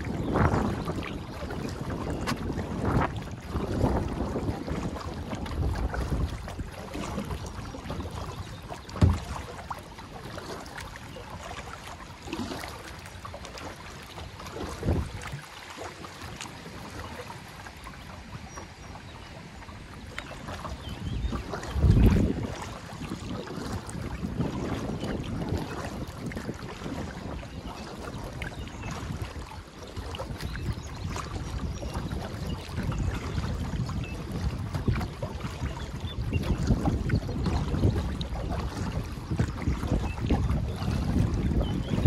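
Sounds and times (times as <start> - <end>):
paddle water splashing: 0.0 - 42.0
wind on microphone: 0.0 - 42.0.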